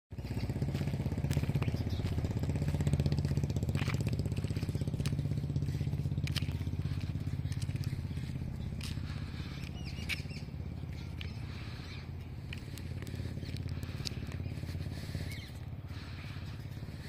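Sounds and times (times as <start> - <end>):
engine running steadily: 0.1 - 17.0.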